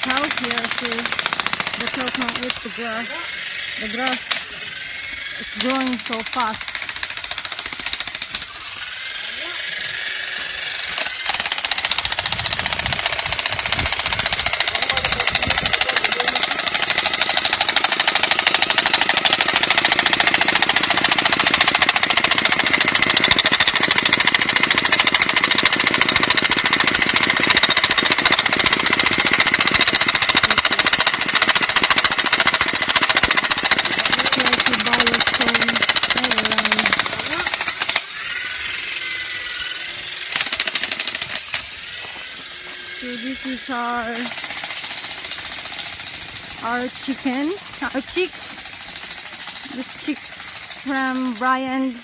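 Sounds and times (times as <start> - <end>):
machine with rapid pulsing: 0.0 - 52.0.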